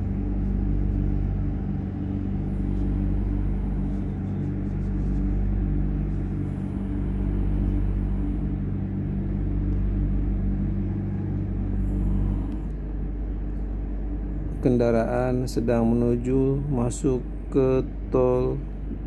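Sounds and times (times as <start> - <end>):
deep rumble: 0.0 - 19.0
low mechanical hum: 0.0 - 19.0.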